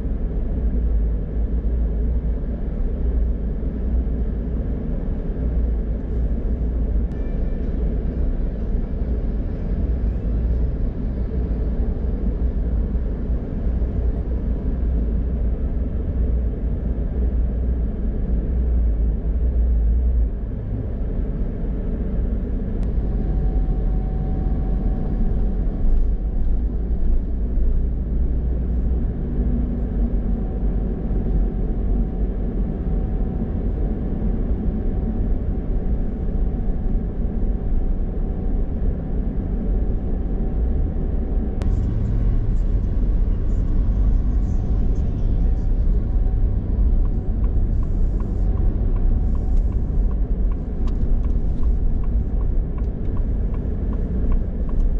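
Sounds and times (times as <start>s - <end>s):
car engine rumble: 0.0s - 54.9s
tyre road noise: 0.0s - 54.9s.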